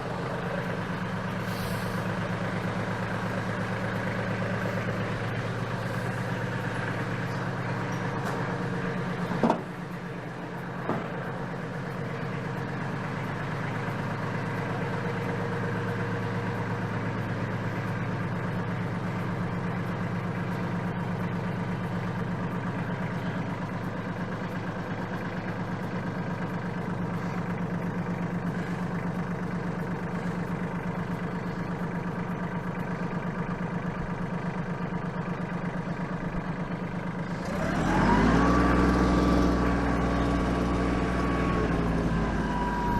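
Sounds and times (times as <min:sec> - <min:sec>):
diesel tractor engine idling: 0:00.0 - 0:42.9.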